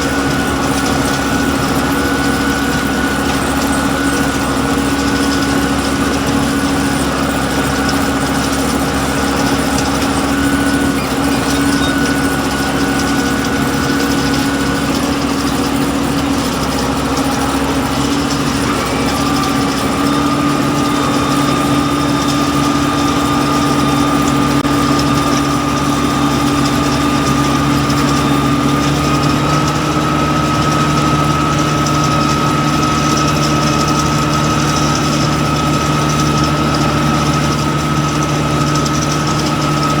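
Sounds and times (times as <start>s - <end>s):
tractor engine droning: 0.0s - 40.0s.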